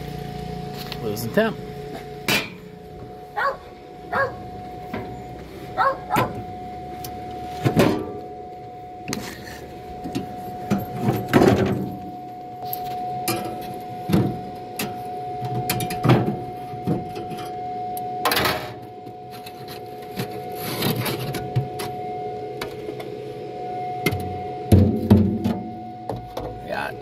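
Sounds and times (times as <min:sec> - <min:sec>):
grill mechanical hum: 0:00.0 - 0:27.0.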